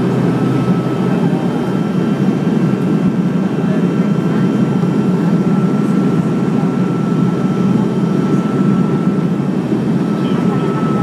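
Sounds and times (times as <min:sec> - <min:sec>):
propeller engine drone: 0:00.0 - 0:11.0.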